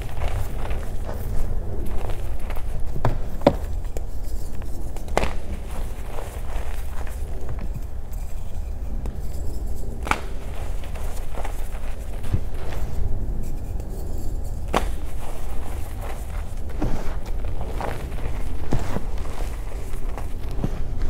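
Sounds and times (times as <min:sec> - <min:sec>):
chalk crunching and crumbling: 0:00.0 - 0:21.0
chalk pieces cracking: 0:00.0 - 0:21.0.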